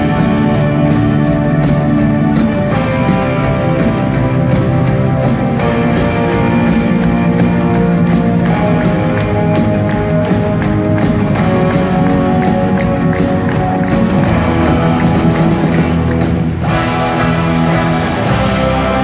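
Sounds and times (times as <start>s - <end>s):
drums keeping a steady beat: 0.0s - 19.0s
electric guitars: 0.0s - 19.0s.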